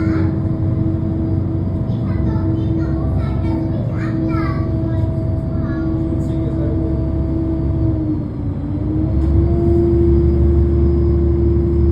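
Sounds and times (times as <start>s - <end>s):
heavy engine droning: 0.0s - 11.9s.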